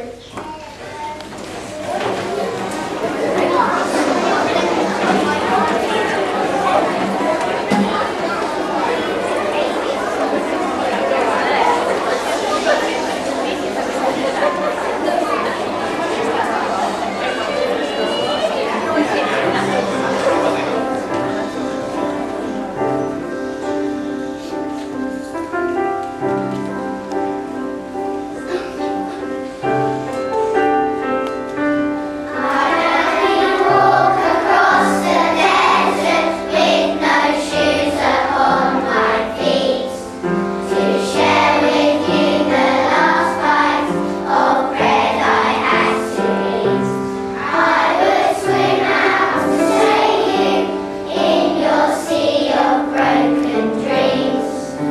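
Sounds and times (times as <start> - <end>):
children's choir singing: 0.0 - 54.9.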